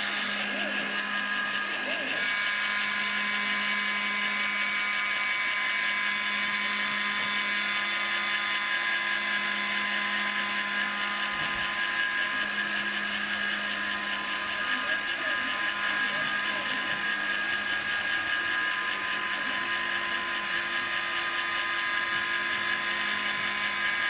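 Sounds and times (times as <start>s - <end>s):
milling spindle motor whine: 0.0s - 24.0s.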